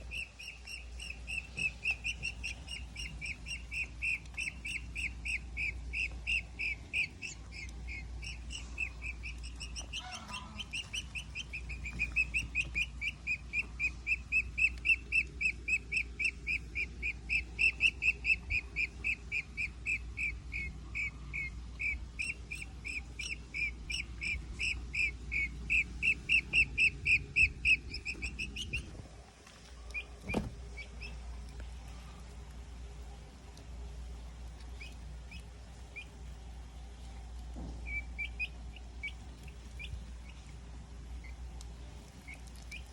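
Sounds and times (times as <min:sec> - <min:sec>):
owl chicks chirping calls: 0:00.0 - 0:29.0, 0:29.8 - 0:32.0, 0:34.3 - 0:36.5, 0:37.8 - 0:42.9.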